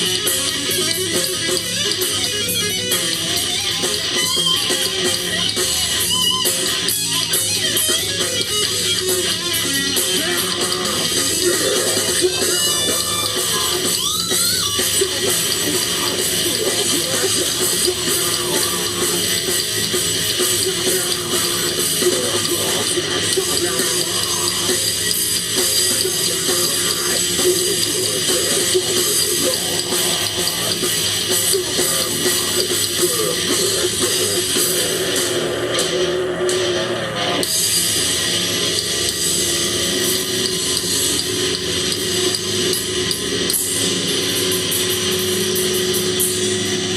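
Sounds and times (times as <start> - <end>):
held guitar notes: 0.0 - 46.9
live rock band playing: 0.0 - 46.9.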